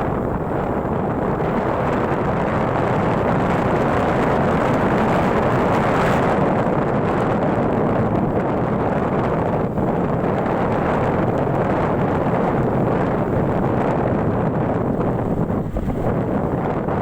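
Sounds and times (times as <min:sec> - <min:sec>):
vehicle driving on road: 0:00.0 - 0:17.0
wind on microphone: 0:00.0 - 0:17.0.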